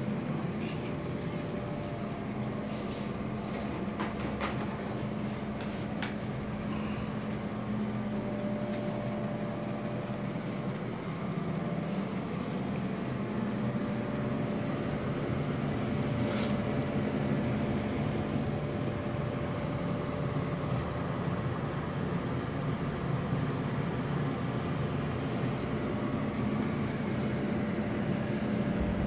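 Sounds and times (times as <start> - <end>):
electric fan whirring: 0.0 - 29.0.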